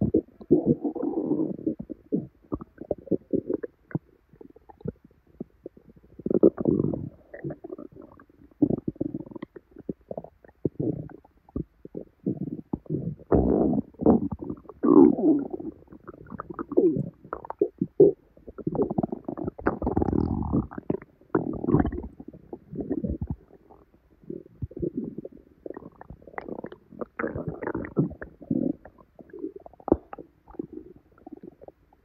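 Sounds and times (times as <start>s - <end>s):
stomach gurgling and rumbling: 0.0s - 32.0s.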